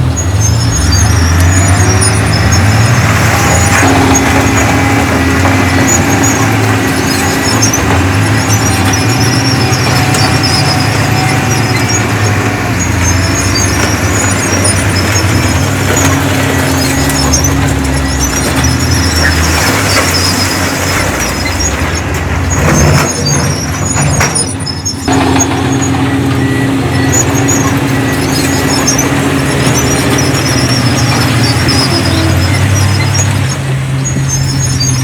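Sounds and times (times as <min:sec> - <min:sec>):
diesel machinery engine running: 0:00.0 - 0:35.0
high-pitched squeaking: 0:00.0 - 0:35.0.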